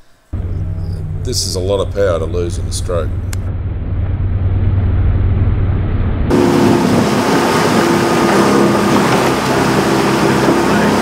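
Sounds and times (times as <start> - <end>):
motorboat engine running: 0.3 - 11.0
wind noise: 0.4 - 11.0.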